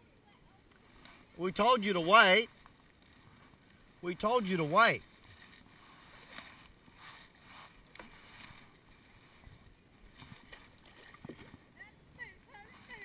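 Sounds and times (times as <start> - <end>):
paddle swishing in water: 0.3 - 13.0.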